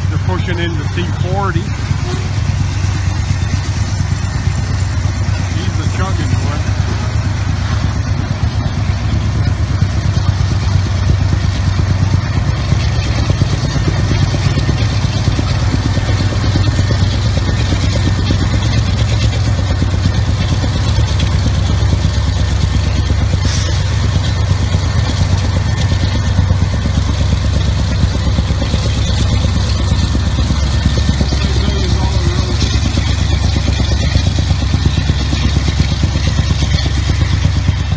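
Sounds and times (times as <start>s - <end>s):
locomotive engine rumbling: 0.0s - 37.9s.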